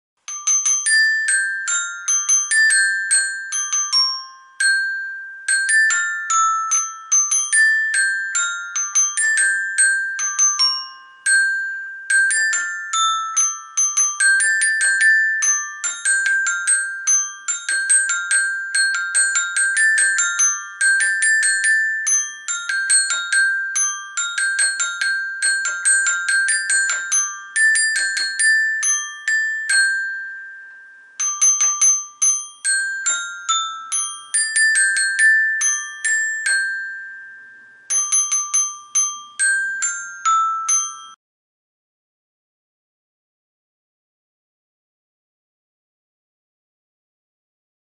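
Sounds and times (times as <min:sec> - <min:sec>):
toy xylophone melody: 0:00.2 - 0:41.2.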